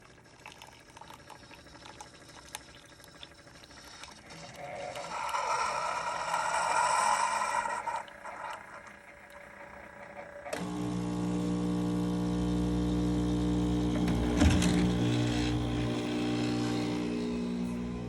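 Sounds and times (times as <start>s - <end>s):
coffee maker pouring liquid: 0.0s - 18.0s.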